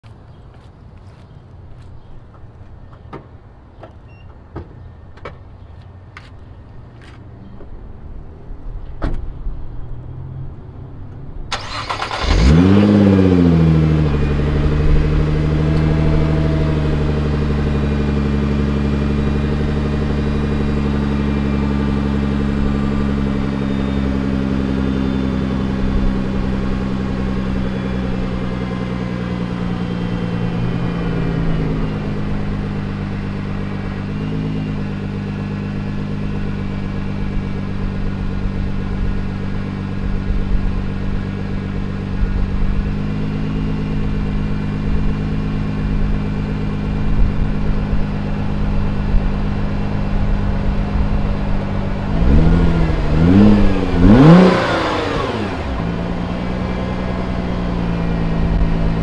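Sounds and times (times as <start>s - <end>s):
car engine idling: 11.5s - 59.0s.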